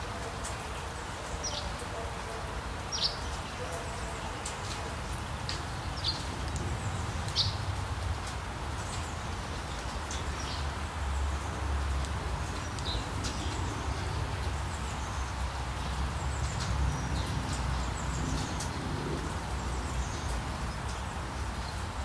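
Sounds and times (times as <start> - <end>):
rain falling in forest: 0.0 - 22.0.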